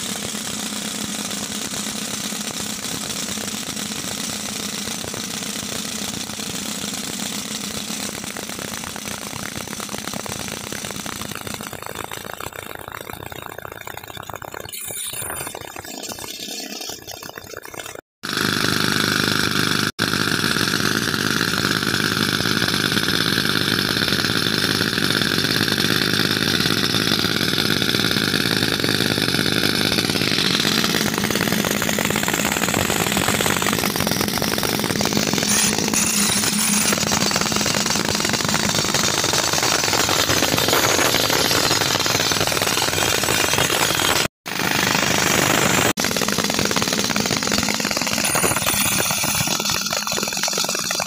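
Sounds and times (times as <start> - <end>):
pneumatic rock drill rattling: 0.0 - 51.0.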